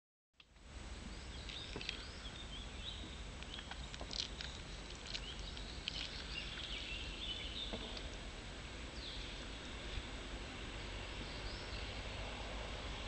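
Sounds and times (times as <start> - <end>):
steady low rumble: 0.4 - 13.0
small birds chirping: 1.0 - 8.3, 8.9 - 12.6.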